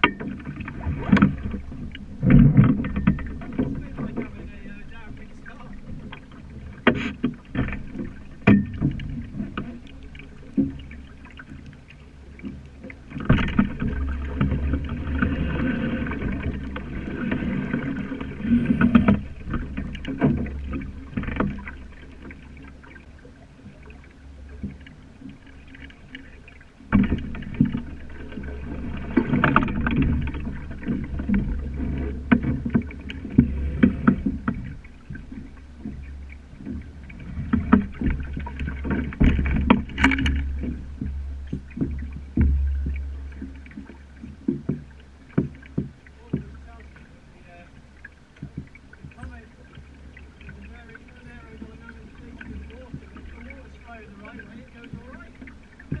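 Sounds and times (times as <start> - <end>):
knocks and taps on boat: 0.0 - 56.0
water rushing along hull: 0.0 - 56.0.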